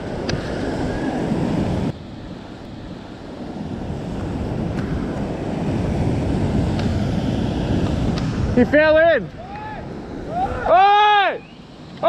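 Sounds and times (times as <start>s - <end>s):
ocean surf breaking on rock: 0.0s - 12.0s
wind buffeting microphone: 0.0s - 12.0s.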